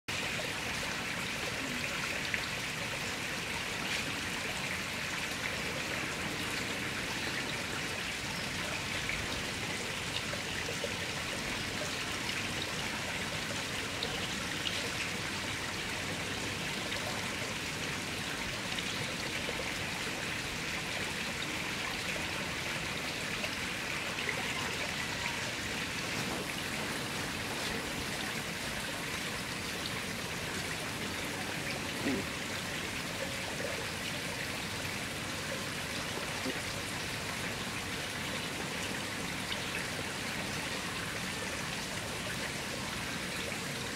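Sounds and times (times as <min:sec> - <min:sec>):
water trickling: 0:00.1 - 0:43.9.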